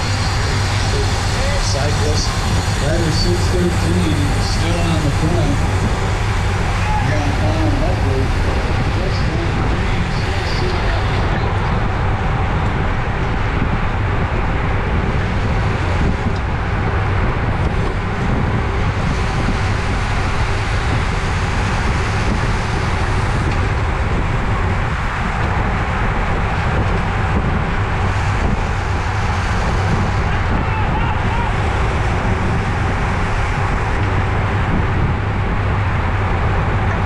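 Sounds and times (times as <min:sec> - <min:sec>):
tyre and road rumble: 0:00.0 - 0:37.0
wind rushing over microphone: 0:00.0 - 0:37.0.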